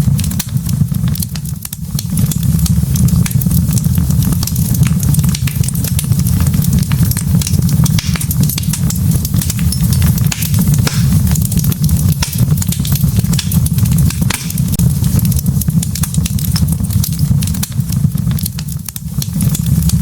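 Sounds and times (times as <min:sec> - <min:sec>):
log fire crackling and popping: 0:00.0 - 0:20.0.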